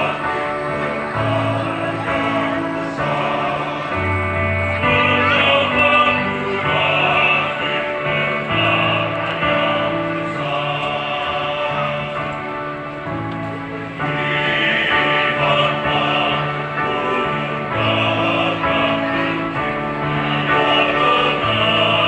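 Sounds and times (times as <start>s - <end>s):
mixed choir singing a hymn: 0.0s - 22.0s.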